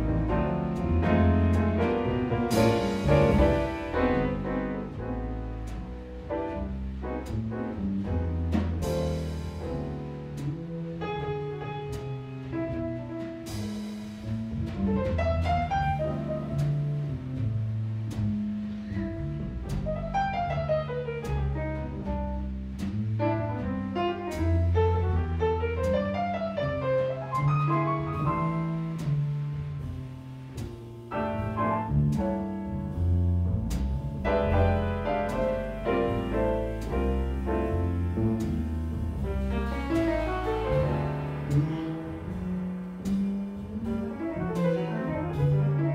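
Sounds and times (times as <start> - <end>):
drums and cymbal taps: 0.0 - 45.9
fast piano lines: 0.0 - 45.9
plucked double bass: 0.0 - 45.9.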